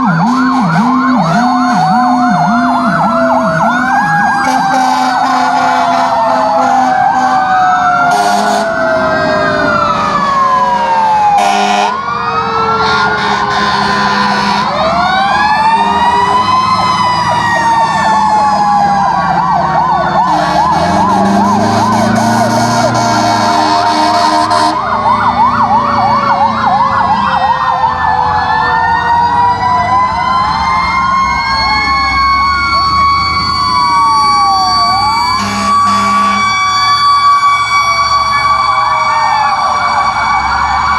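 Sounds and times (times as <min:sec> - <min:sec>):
fire truck sirens wailing: 0:00.0 - 0:40.9
truck engine rumble: 0:00.0 - 0:40.9.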